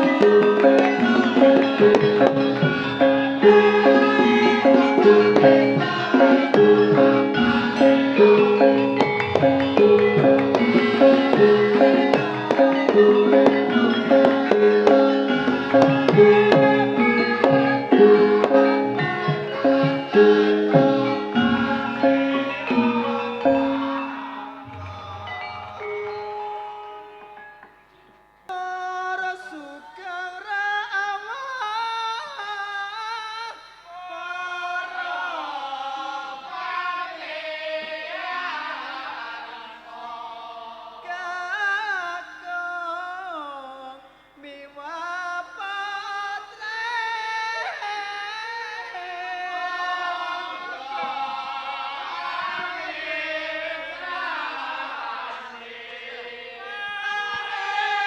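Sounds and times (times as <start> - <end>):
voices singing sliding melody: 0.0 - 30.7, 33.8 - 43.4, 47.7 - 58.0.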